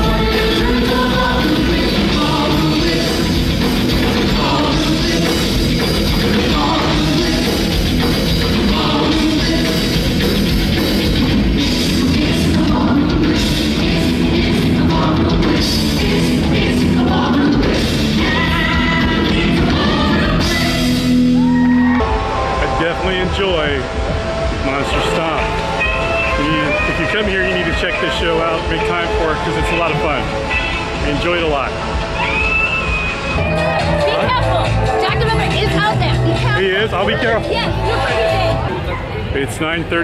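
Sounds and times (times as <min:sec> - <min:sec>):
live heavy rock music with singing: 0:00.0 - 0:39.3.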